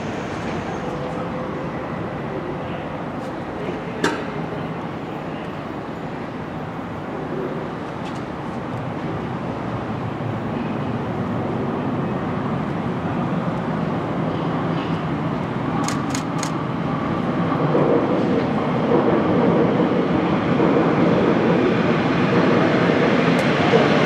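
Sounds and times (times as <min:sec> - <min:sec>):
electric trains running past: 0:00.0 - 0:24.0.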